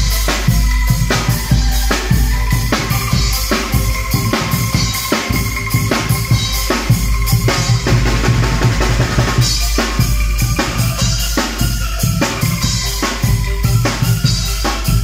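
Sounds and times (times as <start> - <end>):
bass drum beat: 0.0 - 15.0.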